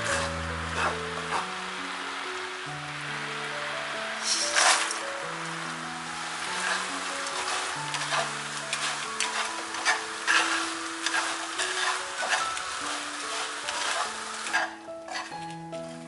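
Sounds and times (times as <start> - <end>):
spatula stirring and scraping pan: 0.0 - 1.6, 4.2 - 16.0
food sizzling: 0.0 - 16.0.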